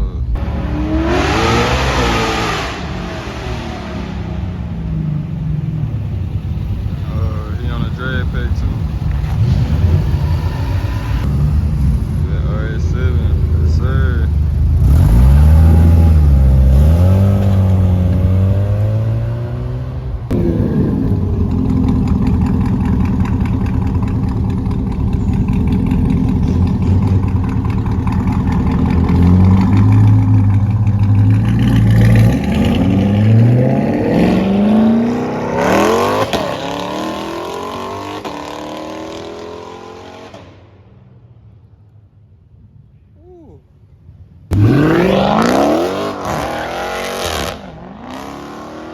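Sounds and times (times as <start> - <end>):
car engine revving: 0.0 - 40.9, 44.5 - 48.9.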